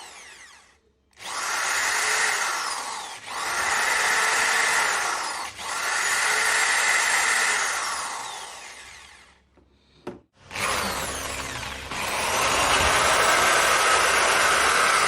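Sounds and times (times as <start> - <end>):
polisher drill motor running: 0.0 - 9.4, 10.4 - 15.0.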